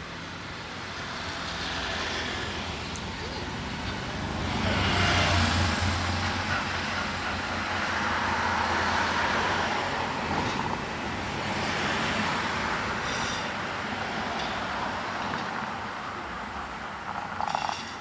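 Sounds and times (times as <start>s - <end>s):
vehicles passing: 0.0s - 18.0s.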